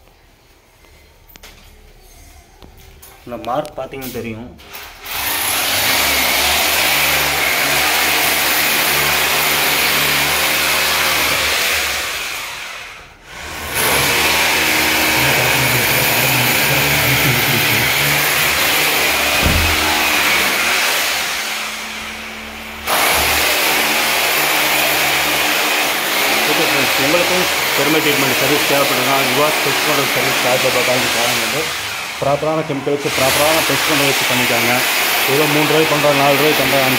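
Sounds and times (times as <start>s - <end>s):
electric hammer drill running: 4.7s - 36.9s.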